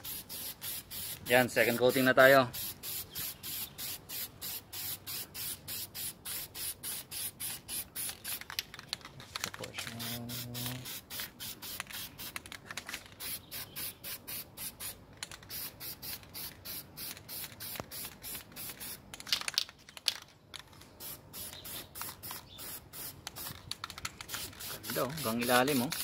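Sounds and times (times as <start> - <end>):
aerosol spray can hissing: 0.0 - 8.5, 9.9 - 12.4, 13.2 - 19.0, 21.0 - 23.6, 24.2 - 26.0.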